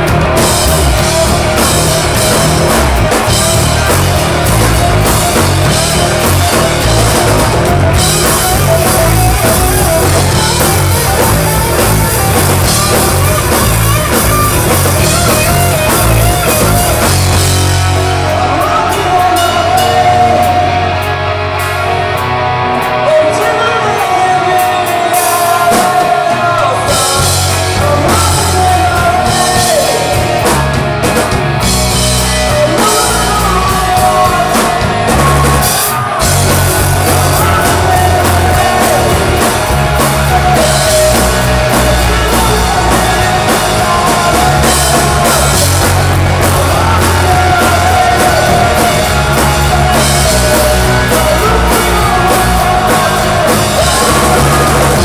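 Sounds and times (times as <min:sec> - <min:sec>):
man singing and shouting: 0:00.0 - 0:21.4, 0:22.8 - 0:55.0
rock band playing: 0:00.0 - 0:55.0.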